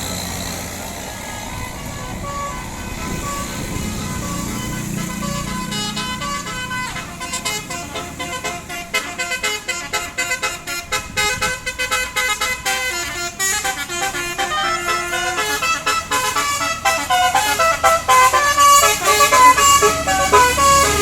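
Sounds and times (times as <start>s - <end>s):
multi-tone bus horn tune: 0.0s - 21.0s.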